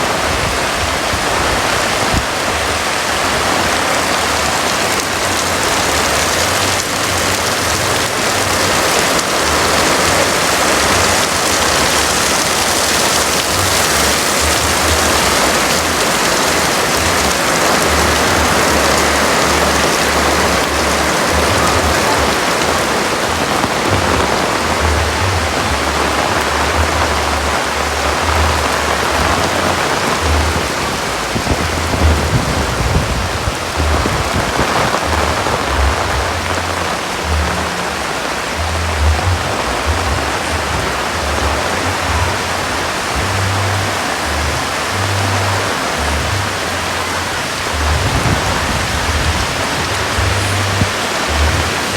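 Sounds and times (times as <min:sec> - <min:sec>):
heavy rain falling: 0:00.0 - 0:51.9
strong wind gusts rumbling: 0:00.0 - 0:51.9.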